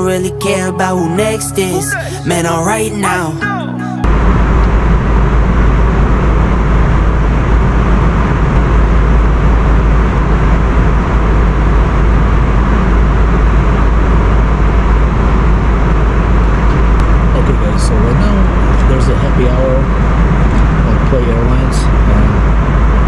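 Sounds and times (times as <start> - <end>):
jet airliner cabin rumble: 4.1 - 23.0.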